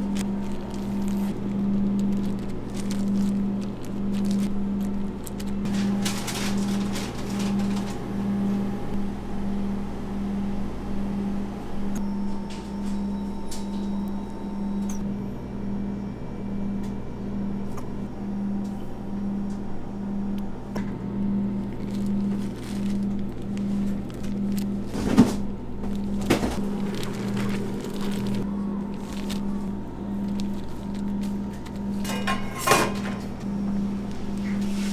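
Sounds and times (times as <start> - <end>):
pulsing low machine hum: 0.0 - 34.9.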